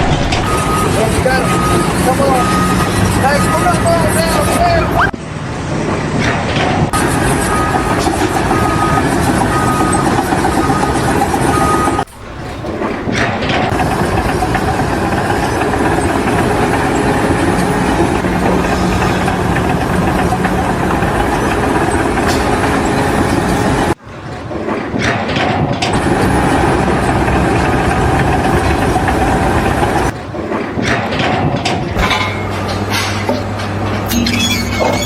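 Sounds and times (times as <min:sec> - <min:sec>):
heavy engine running: 0:00.0 - 0:35.0.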